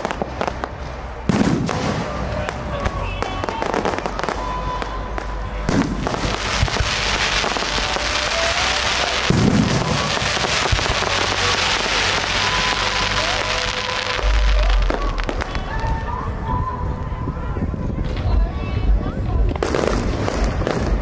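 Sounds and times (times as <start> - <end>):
crackling fireworks: 0.0 - 21.0.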